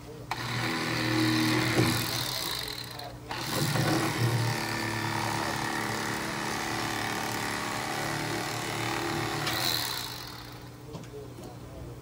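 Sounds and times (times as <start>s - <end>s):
electric knife buzzing: 0.3s - 10.8s.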